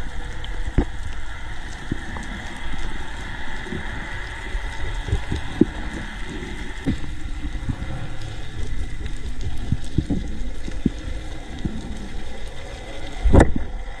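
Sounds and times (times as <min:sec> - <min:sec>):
low rumble of moving water: 0:00.0 - 0:14.0
faint ticks: 0:00.2 - 0:14.0.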